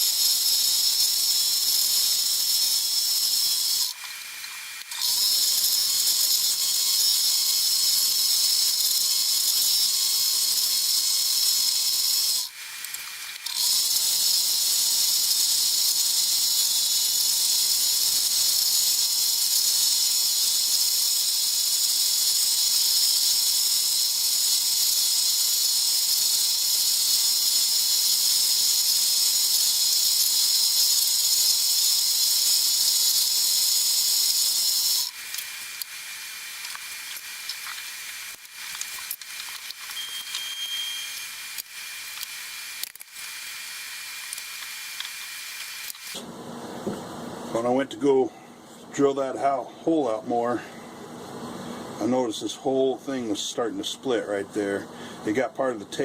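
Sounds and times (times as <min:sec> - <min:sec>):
scroll saw running: 0:00.0 - 0:46.3.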